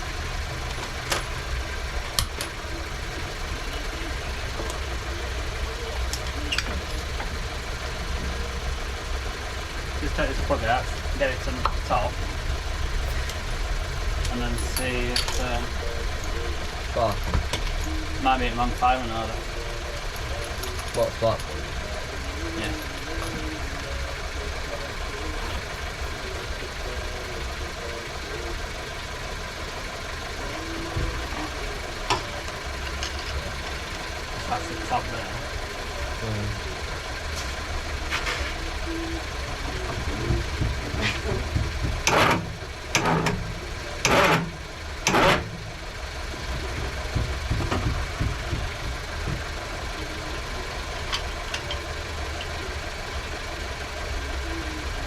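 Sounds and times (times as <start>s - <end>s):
low mechanical running sound: 0.0s - 55.0s.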